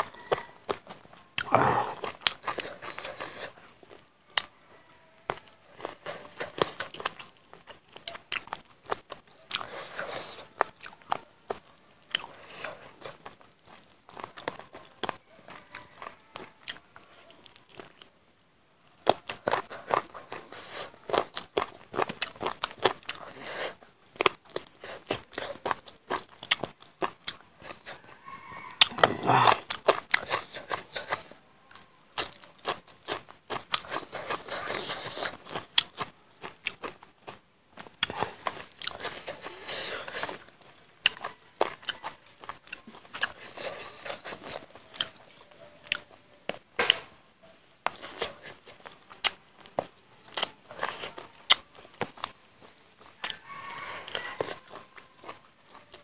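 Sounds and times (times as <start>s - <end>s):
chewing and crunching food: 0.0s - 56.0s.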